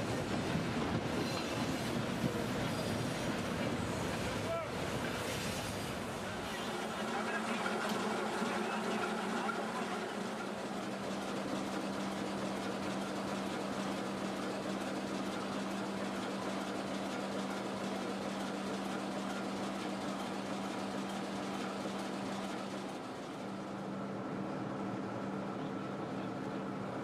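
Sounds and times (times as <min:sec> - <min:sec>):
locomotive mechanical hum: 0:00.0 - 0:27.0.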